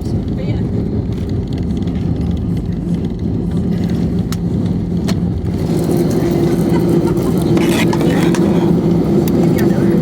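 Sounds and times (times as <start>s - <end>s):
airliner engines rumbling in cabin: 0.0s - 10.0s.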